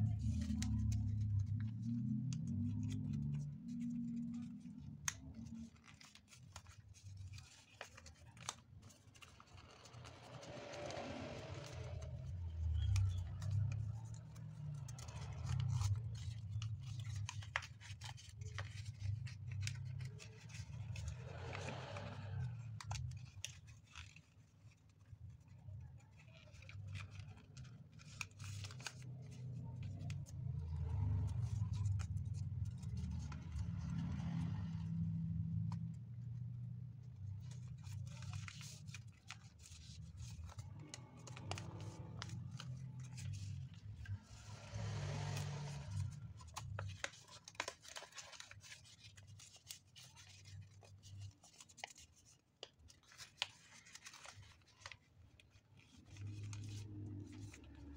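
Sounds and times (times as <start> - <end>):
paper being folded and creased: 0.0 - 57.9.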